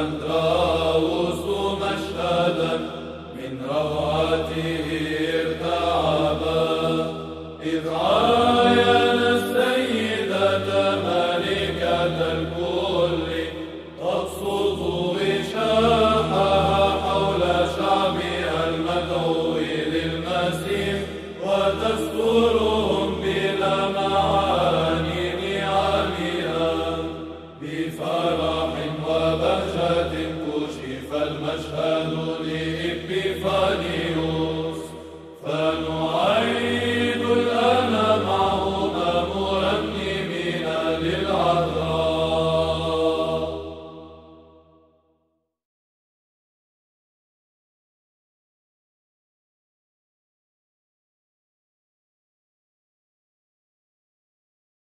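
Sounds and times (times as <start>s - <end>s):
person chanting a hymn melody: 0.0s - 44.5s.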